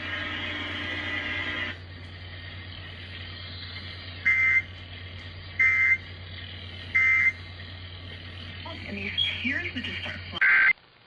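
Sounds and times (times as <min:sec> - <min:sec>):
warbling electronic data bursts: 0:00.0 - 0:10.7
steady low hum: 0:00.0 - 0:11.0.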